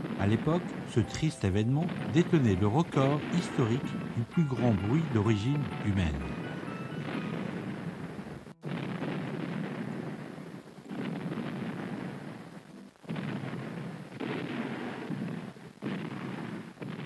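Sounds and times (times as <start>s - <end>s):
artillery explosion booms: 0.0s - 17.0s.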